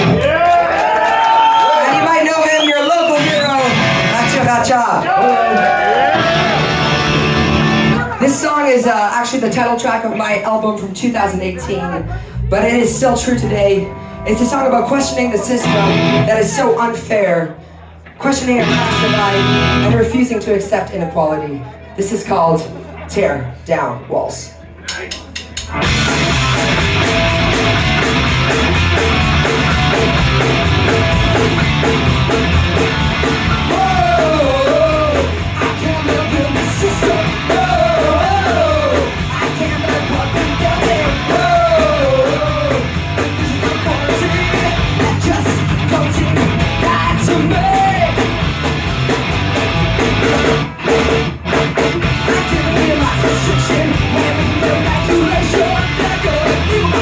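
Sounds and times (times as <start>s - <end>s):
punk rock band playing: 0.0s - 1.0s, 2.0s - 8.5s, 12.1s - 17.3s, 18.2s - 20.7s, 25.2s - 57.0s.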